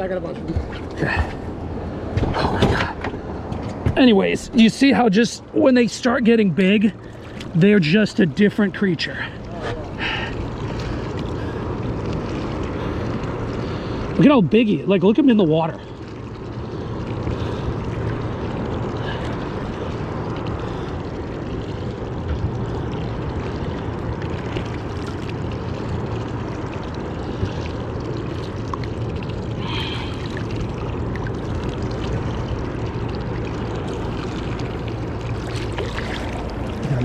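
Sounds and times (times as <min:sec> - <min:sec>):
low steady hum: 0:00.0 - 0:37.0
water washing around boat: 0:00.0 - 0:37.0
wind: 0:00.0 - 0:37.0.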